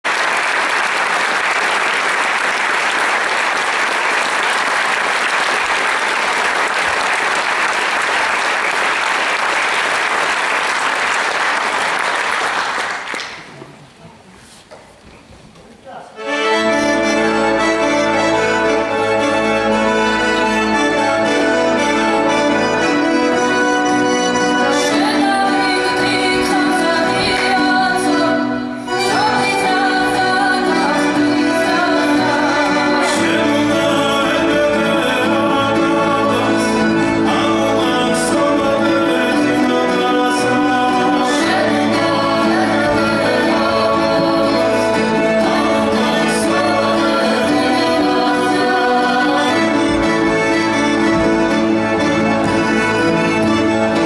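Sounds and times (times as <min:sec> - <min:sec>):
folk ensemble playing dance tune: 0:00.0 - 0:14.0, 0:16.0 - 0:54.0.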